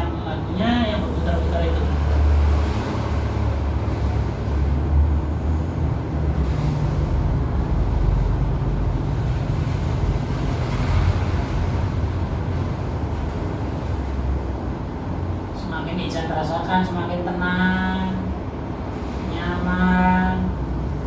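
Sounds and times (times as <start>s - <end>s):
low-pitched background noise: 0.0s - 21.0s.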